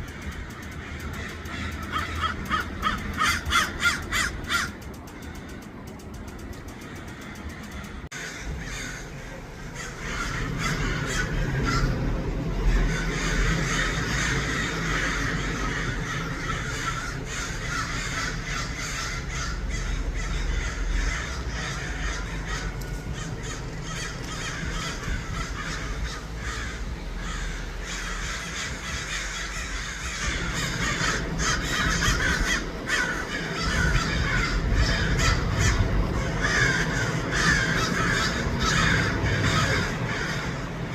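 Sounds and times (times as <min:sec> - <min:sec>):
crows cawing: 0:00.0 - 0:40.9
low rumble: 0:00.0 - 0:40.9.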